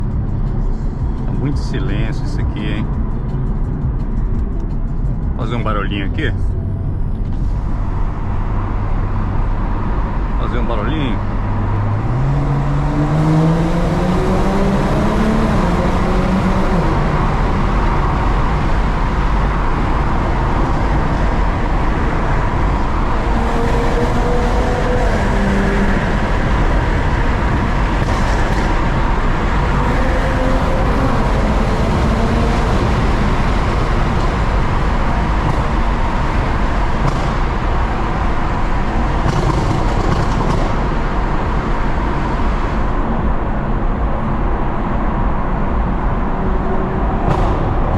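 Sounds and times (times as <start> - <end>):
road noise: 0.0 - 47.9
car engine accelerating: 6.2 - 47.9.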